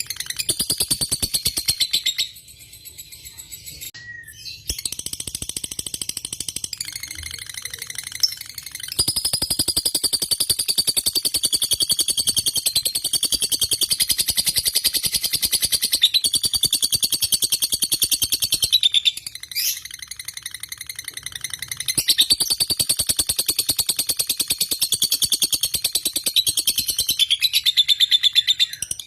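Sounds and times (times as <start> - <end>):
bird chattering trill: 0.0 - 29.0.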